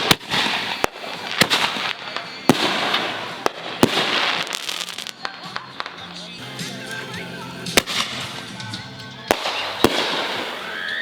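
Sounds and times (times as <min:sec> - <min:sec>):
fireworks bangs: 0:00.0 - 0:06.2, 0:07.6 - 0:11.0
fireworks crackling: 0:00.0 - 0:11.0.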